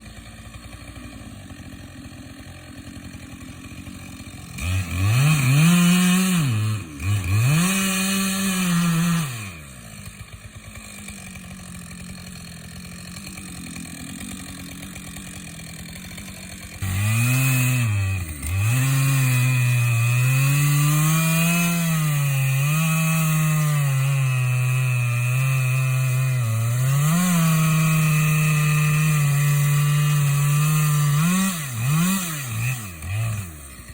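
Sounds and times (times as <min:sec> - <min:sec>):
chainsaw revving and cutting wood: 0:00.0 - 0:33.9.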